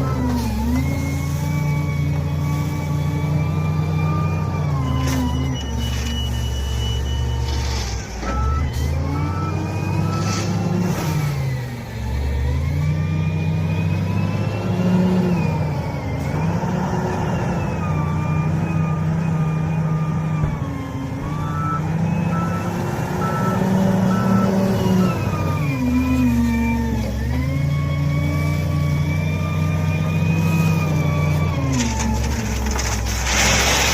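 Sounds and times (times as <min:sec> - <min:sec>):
reversing alarm beeps: 0:00.0 - 0:14.5, 0:17.2 - 0:31.7
wheel loader diesel engine revving: 0:00.0 - 0:33.9.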